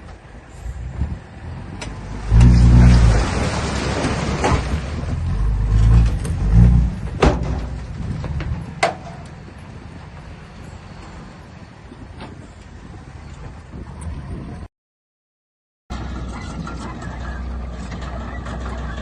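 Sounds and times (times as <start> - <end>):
diesel engine working under load: 0.0 - 12.8, 15.9 - 19.0.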